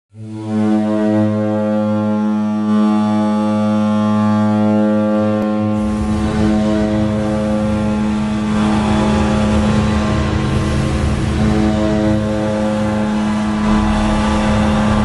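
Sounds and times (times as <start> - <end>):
rough noisy sound: 0.1 - 15.0
goal horn blast: 0.2 - 15.0.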